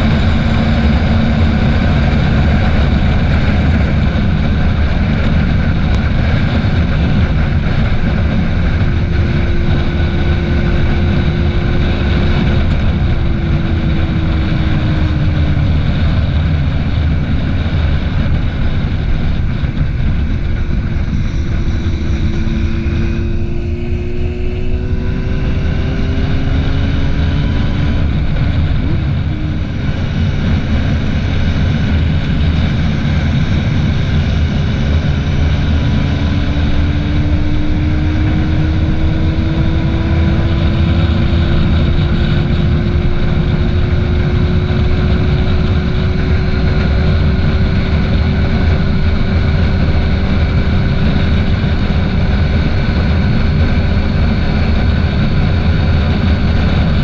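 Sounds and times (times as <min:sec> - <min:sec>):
motorcycle engine running: 0:00.0 - 0:57.0
wind rushing on microphone: 0:00.0 - 0:57.0.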